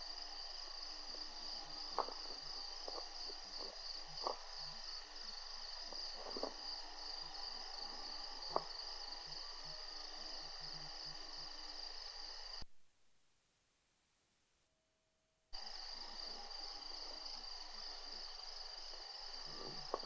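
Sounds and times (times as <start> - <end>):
insects chirring: 0.0 - 12.6, 15.6 - 20.0.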